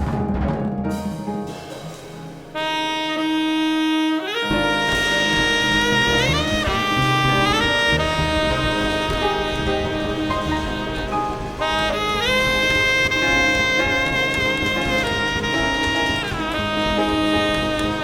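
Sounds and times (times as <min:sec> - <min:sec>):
double bass: 0:00.0 - 0:18.0
drum swell: 0:00.0 - 0:18.0
piano: 0:00.0 - 0:18.0
jazz saxophone melody: 0:01.2 - 0:18.0.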